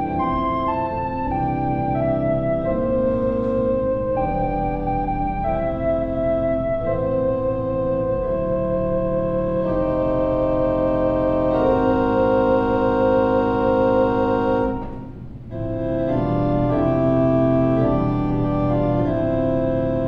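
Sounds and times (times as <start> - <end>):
organ playing sustained chords: 0.0 - 20.0.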